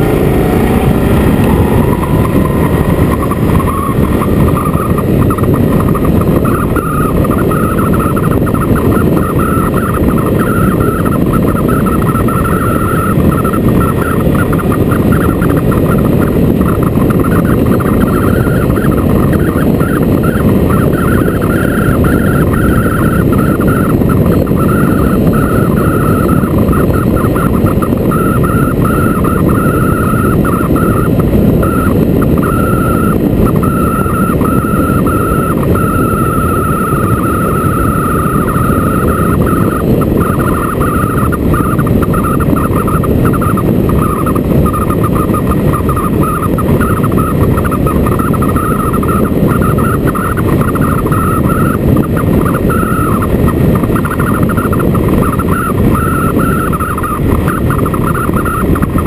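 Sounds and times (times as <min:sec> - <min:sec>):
wavering high tone: 0:00.0 - 0:53.3
wind and road noise: 0:00.0 - 0:59.0.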